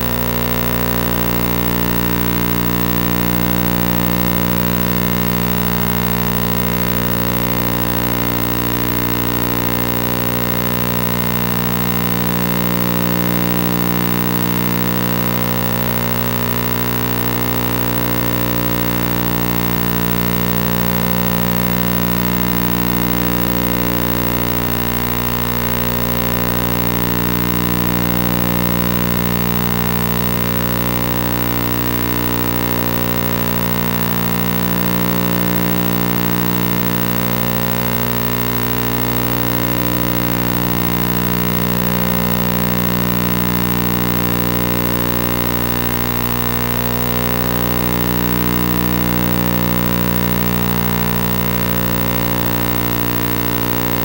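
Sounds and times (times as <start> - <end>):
droning hum with overtones: 0.0 - 54.0.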